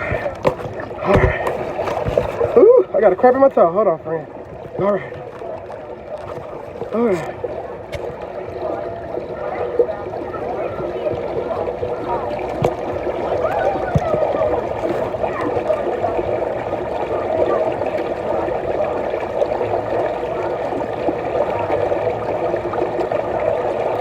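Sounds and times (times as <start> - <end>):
hubbub of distant voices: 0.0 - 24.0
running water: 0.0 - 24.0.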